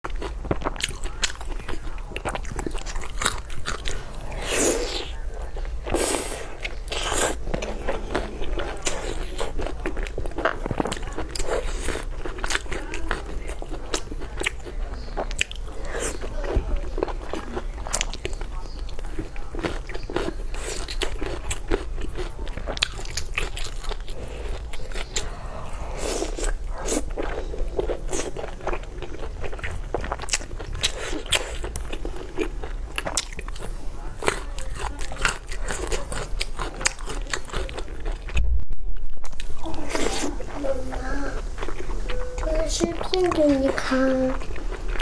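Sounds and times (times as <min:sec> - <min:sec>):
person chewing and biting: 0:00.1 - 0:45.0.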